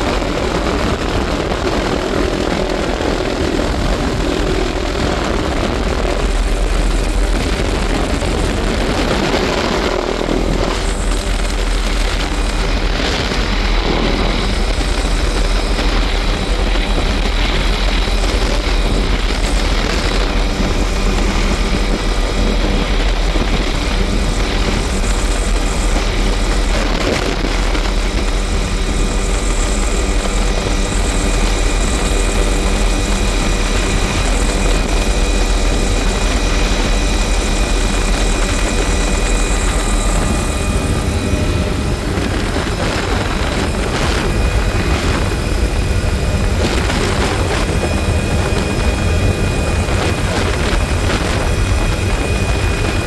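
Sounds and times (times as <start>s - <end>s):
helicopter rotor and engine noise: 0.0s - 53.0s
rushing air: 0.0s - 53.0s.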